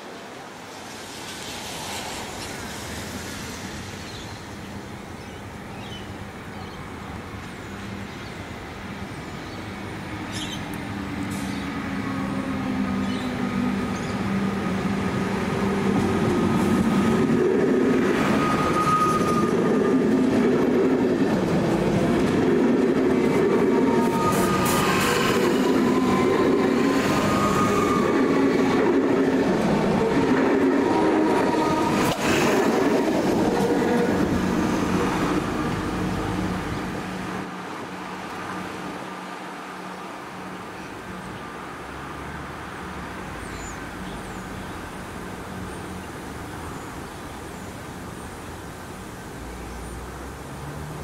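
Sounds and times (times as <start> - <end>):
electric train passing: 0.0 - 51.0.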